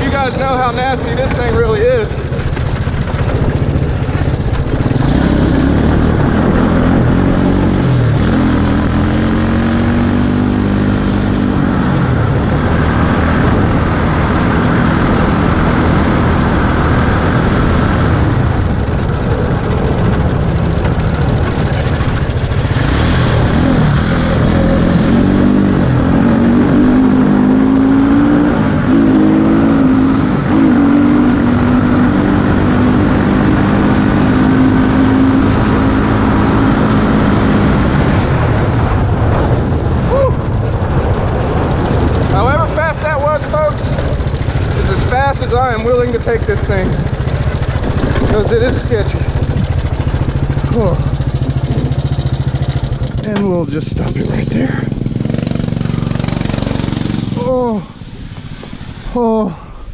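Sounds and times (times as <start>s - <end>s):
go-kart engine accelerating: 0.0s - 59.5s
road and wind noise: 0.0s - 59.9s.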